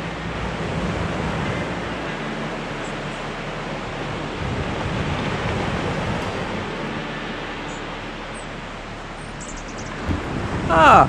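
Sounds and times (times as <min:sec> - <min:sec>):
surf washing up beach: 0:00.0 - 0:11.0.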